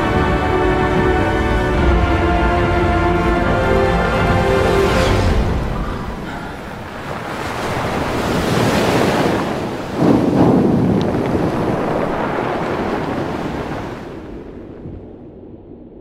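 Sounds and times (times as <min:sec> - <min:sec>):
surging waves: 0:00.0 - 0:15.0
wind: 0:00.0 - 0:16.0.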